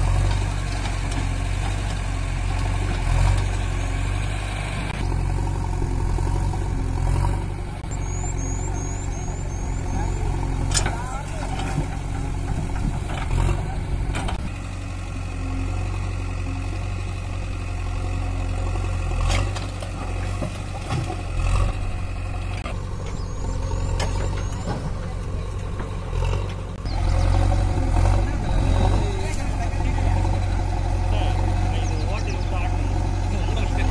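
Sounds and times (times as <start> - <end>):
diesel engines running: 0.0 - 33.9.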